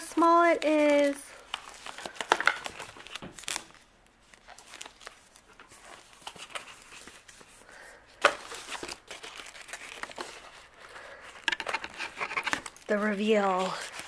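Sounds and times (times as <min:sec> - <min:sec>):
wrapping sheet rustling and crinkling: 0:00.0 - 0:14.0.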